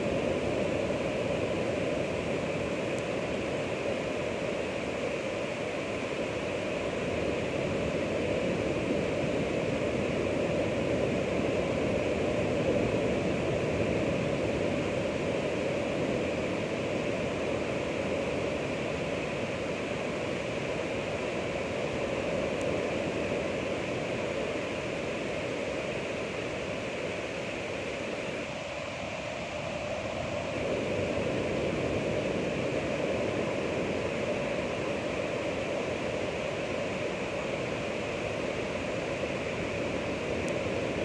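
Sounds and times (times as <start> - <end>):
ocean waves surf: 3.4 - 41.0.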